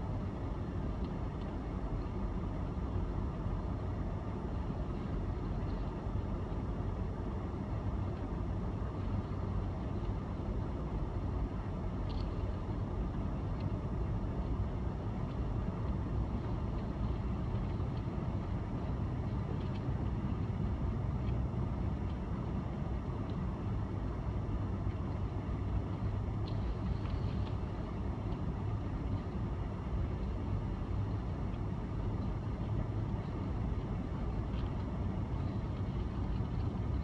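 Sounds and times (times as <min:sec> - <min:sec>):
car engine and tyres rumbling: 0:00.0 - 0:37.0
faint light ticks: 0:00.1 - 0:02.8, 0:04.5 - 0:06.7, 0:07.9 - 0:23.9, 0:24.6 - 0:37.0.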